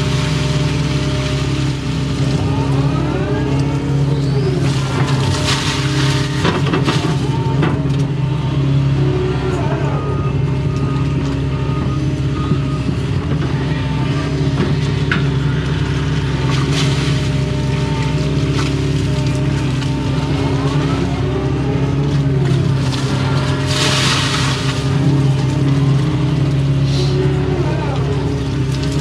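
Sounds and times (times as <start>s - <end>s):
excavator diesel engine running: 0.0s - 29.0s
hydraulic whine: 0.0s - 29.0s.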